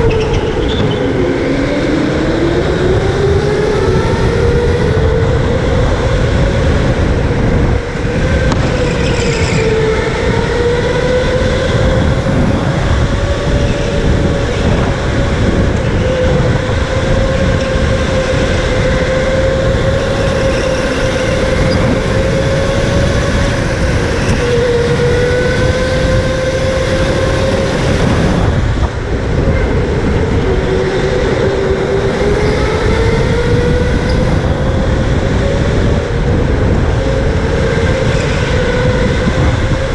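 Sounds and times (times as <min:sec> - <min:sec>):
rumble of tires and wind: 0:00.0 - 0:39.9.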